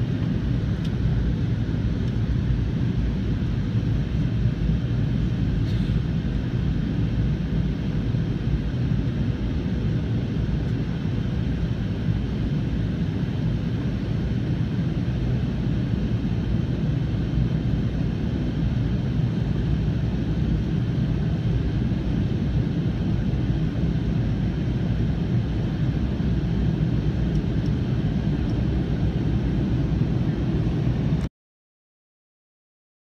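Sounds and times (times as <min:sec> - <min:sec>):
jet engines rumbling in cabin: 0:00.0 - 0:31.3.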